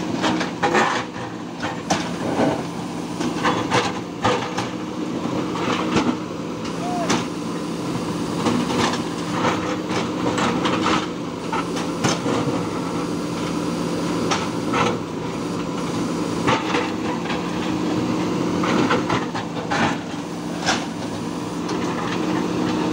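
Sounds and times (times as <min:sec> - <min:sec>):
diesel engines running under load: 0:00.0 - 0:22.9.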